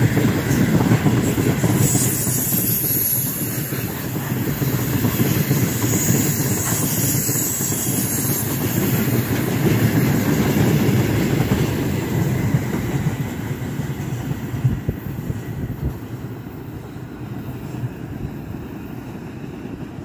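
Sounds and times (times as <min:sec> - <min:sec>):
freight train rolling past: 0:00.0 - 0:20.0
wheels clacking on rail: 0:00.0 - 0:20.0.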